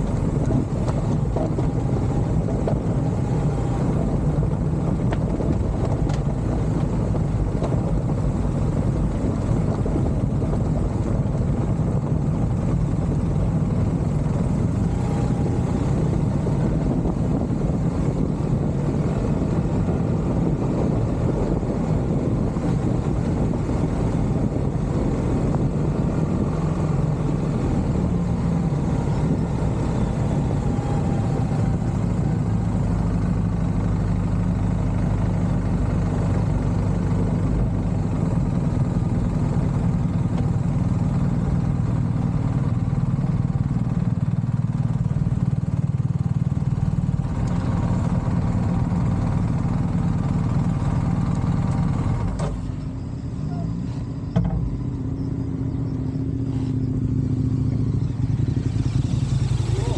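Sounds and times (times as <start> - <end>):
vehicle engine drone: 0.0 - 59.9.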